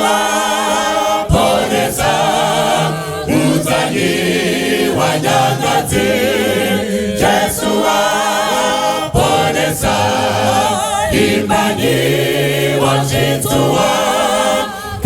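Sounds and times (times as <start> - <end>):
vocal group singing a hymn: 0.0 - 15.0.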